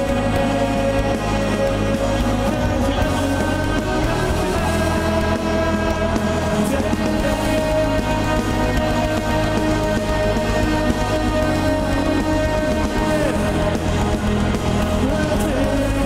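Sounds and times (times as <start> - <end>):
live metal band playing: 0.0 - 16.0.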